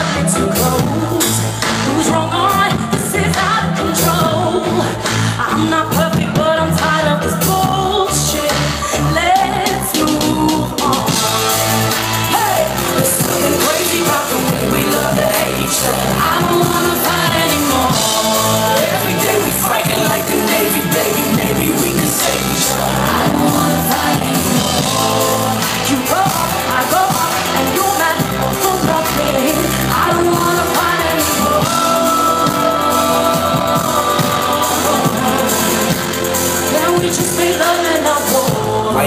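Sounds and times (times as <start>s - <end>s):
live pop band with drums: 0.0s - 39.0s
woman singing into microphone: 0.0s - 39.0s.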